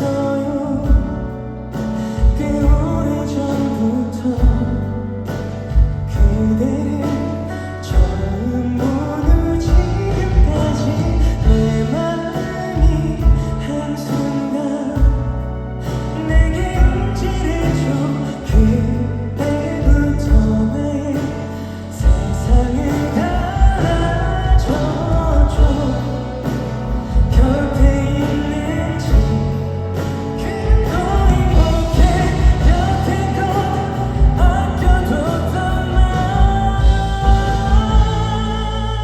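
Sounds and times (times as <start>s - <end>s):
live band playing pop ballad: 0.0s - 39.0s
person singing: 0.0s - 39.0s.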